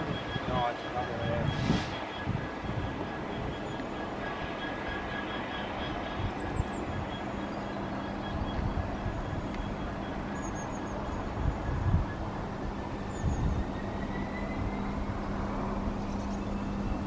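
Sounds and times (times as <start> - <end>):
diesel locomotive engine hum: 0.0 - 17.0
faint whine rising in pitch: 0.0 - 17.0
wind buffeting microphone: 0.0 - 17.0.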